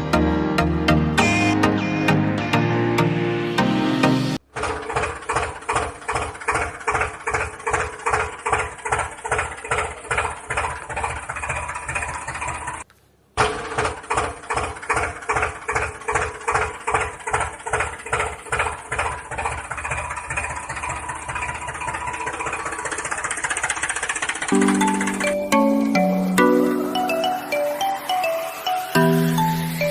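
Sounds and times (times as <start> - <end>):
tractor engine chugging: 4.4 - 29.9.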